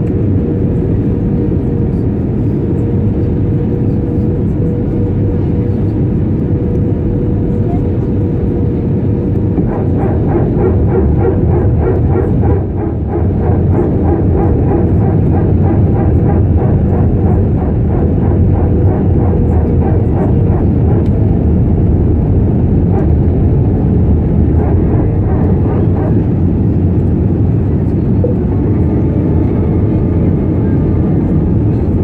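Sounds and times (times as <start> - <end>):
aircraft engines rumbling: 0.0 - 32.0
steady hum: 0.0 - 32.0.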